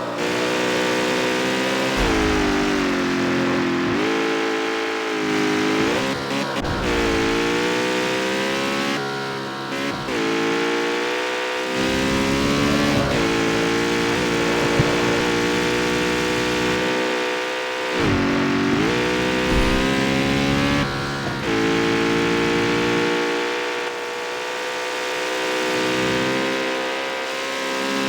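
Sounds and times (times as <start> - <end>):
car engine accelerating through gears: 0.0 - 28.0.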